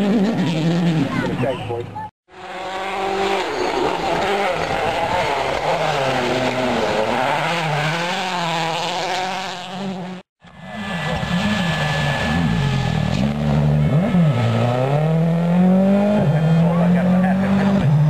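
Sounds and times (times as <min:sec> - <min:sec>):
rally car engine revving: 0:00.0 - 0:01.6, 0:02.3 - 0:18.0.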